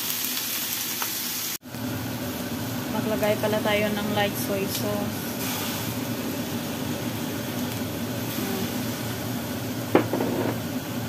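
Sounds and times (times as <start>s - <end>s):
meat frying in a wok: 0.0s - 11.0s.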